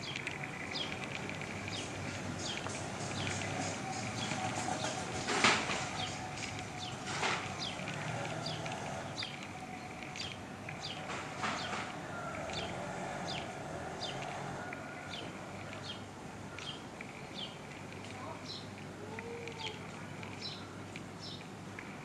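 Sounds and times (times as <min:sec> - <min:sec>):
bird chirping: 0:00.0 - 0:21.5
steady background hum: 0:00.0 - 0:22.0.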